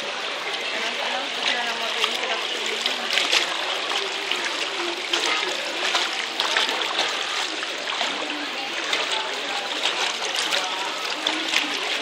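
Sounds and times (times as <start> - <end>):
floodwater splashing and sloshing: 0.0 - 12.0.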